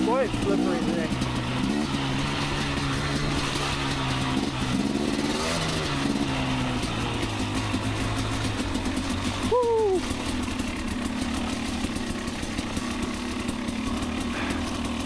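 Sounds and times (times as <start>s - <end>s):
two-stroke dirt bike engine: 0.0s - 15.0s.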